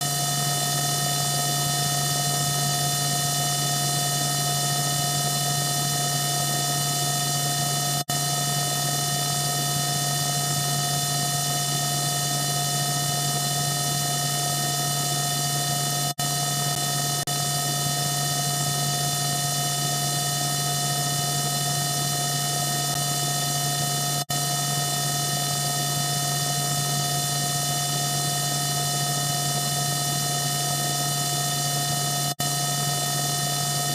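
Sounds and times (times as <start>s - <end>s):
electronic hum with high tones: 0.0s - 33.9s.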